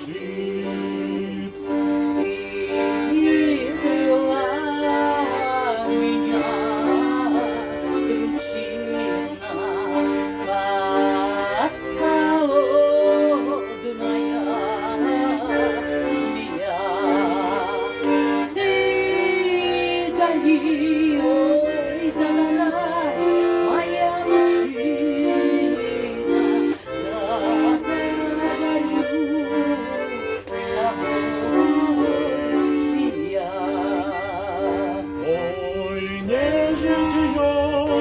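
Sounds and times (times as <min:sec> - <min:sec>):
button accordion chords: 0:00.0 - 0:38.0
person singing with vibrato: 0:00.0 - 0:38.0.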